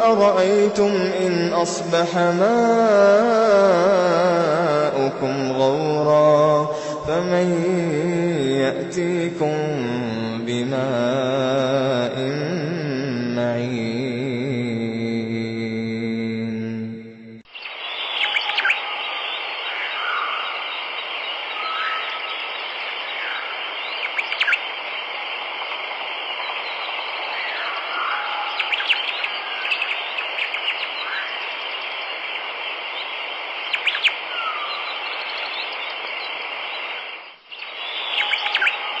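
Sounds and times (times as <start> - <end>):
birds chirping and trilling: 0.0 - 15.1, 15.8 - 39.0
hissy outdoor ambience: 0.0 - 15.3, 17.2 - 39.0.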